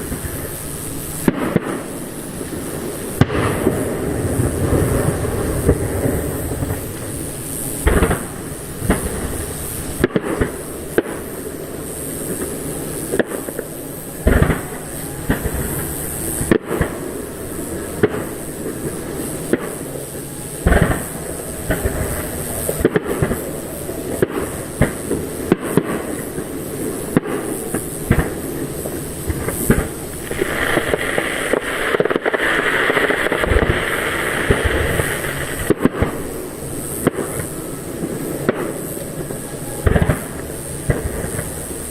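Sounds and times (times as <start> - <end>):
continuous rumble: 0.0 - 41.9
firework shells bursting: 0.0 - 41.9
fireworks crackling: 0.0 - 41.9.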